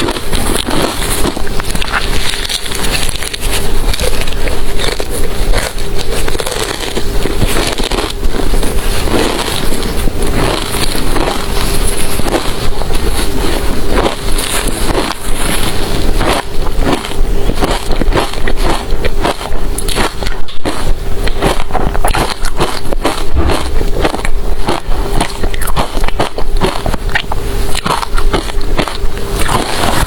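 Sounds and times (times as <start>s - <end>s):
ice being chewed: 0.0s - 30.0s.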